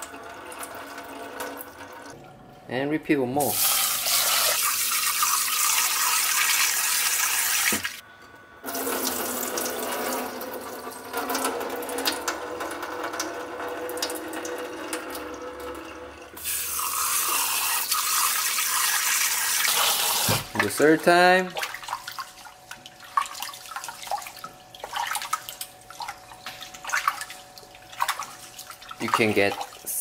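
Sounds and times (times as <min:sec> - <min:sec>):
water pouring into metal sink: 0:03.4 - 0:08.0, 0:08.7 - 0:30.0.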